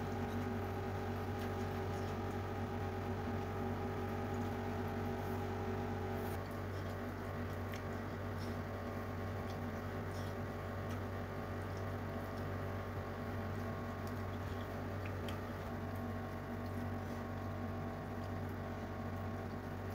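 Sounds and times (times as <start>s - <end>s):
chewing: 0.0s - 5.4s, 6.3s - 19.9s
low electrical hum: 0.0s - 19.9s
wet squishes of fingers mixing rice: 0.0s - 19.9s.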